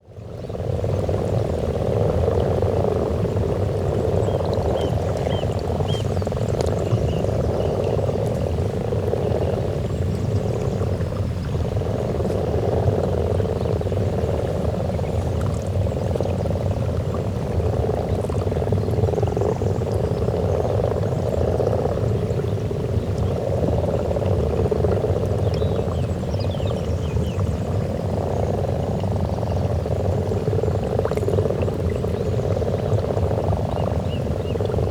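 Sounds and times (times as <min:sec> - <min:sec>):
frogs croaking in chorus: 0:01.1 - 0:34.9.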